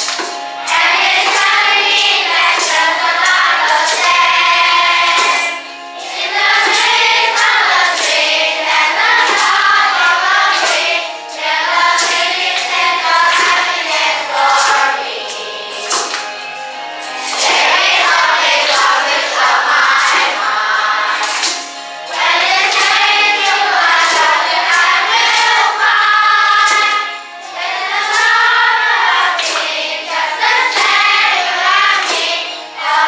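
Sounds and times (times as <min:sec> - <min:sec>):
children singing in choir: 0:00.0 - 0:33.0.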